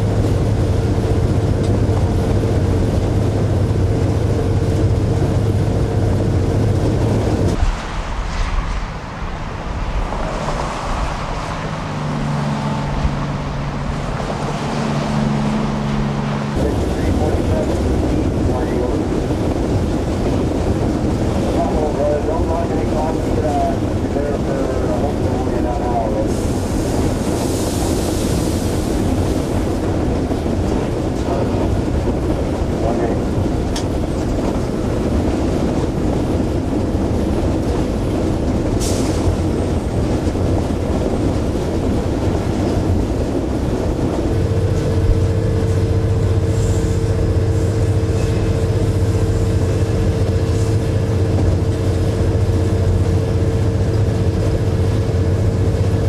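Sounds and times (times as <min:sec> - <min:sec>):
diesel locomotive engine running: 0:00.0 - 0:56.0
wheel-on-rail noise: 0:00.0 - 0:56.0.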